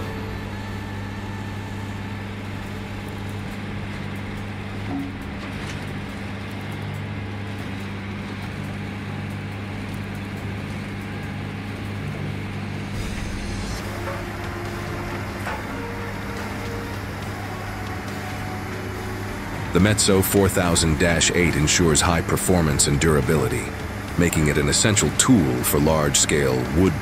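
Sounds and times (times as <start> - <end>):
stump shredder droning: 0.0 - 27.0.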